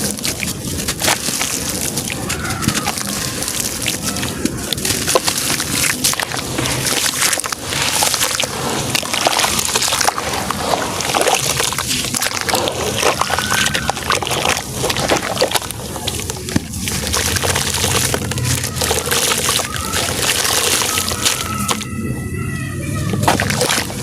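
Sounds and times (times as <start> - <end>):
crumbling crunches in water: 0.0 - 22.0, 23.1 - 24.0
watery sounds: 0.0 - 24.0.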